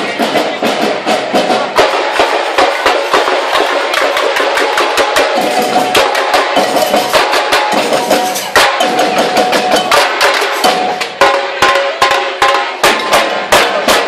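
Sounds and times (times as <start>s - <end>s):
held band instrument notes: 0.0s - 14.0s
marching band drums: 0.0s - 14.0s.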